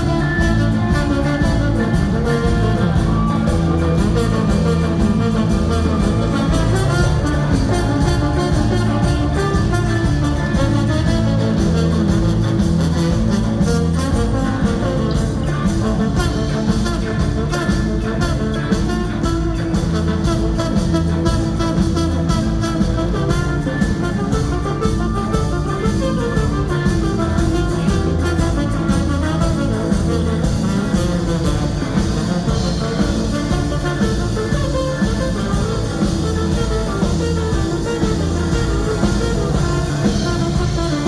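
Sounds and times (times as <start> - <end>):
live ska-punk band: 0.0 - 41.0.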